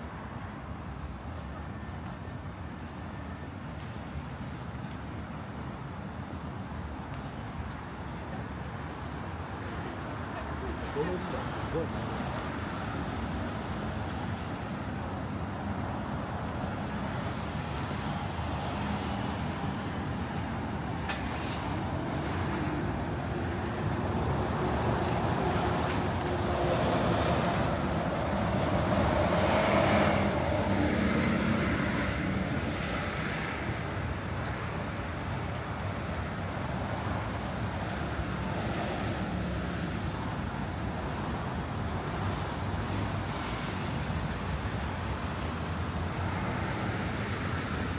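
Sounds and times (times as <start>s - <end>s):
hum of passing cars: 0.0s - 47.9s.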